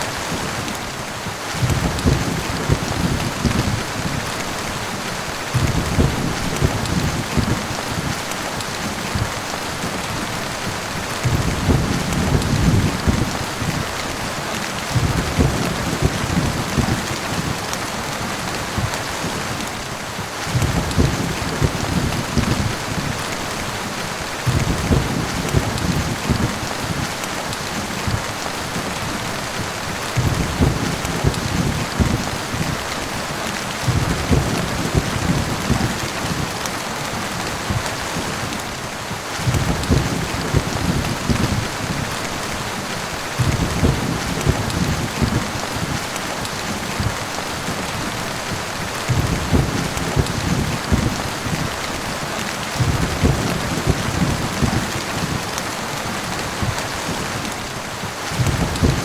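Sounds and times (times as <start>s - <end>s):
heavy rain: 0.0s - 59.0s
thunder rumbling: 0.2s - 38.6s, 39.3s - 55.5s, 56.3s - 59.0s.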